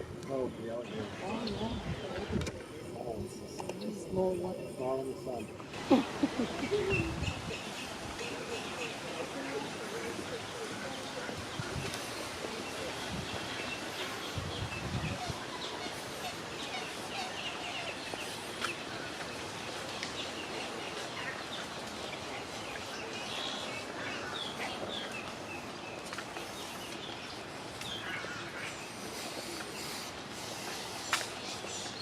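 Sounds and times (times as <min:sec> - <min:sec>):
birds chirping: 0:00.0 - 0:32.0
steady background hiss: 0:00.0 - 0:32.0.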